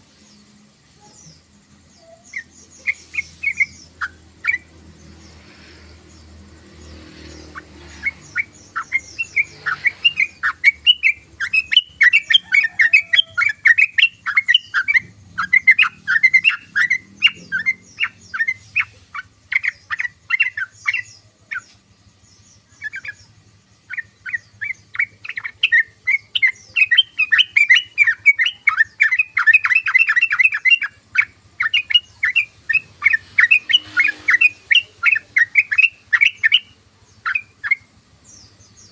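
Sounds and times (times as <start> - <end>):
bulbul chirping: 0.2 - 38.9.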